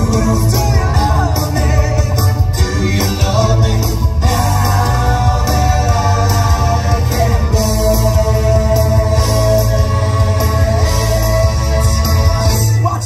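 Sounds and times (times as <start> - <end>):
live band music: 0.0 - 13.0
man singing: 0.0 - 13.0.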